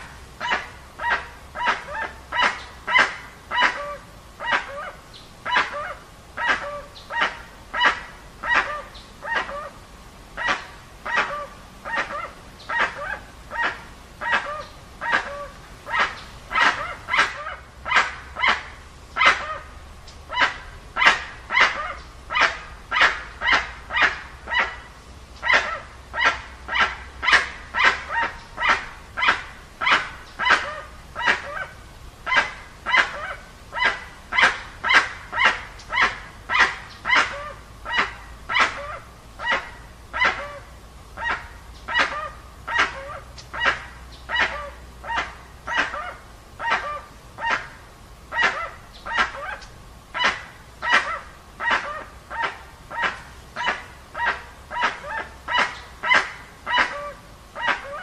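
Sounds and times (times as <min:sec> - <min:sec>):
bird calling: 0:00.0 - 0:09.8, 0:10.4 - 0:58.0.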